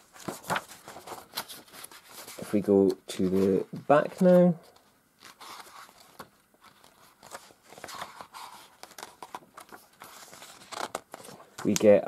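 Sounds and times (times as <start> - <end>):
book pages flipping: 0.0 - 12.0.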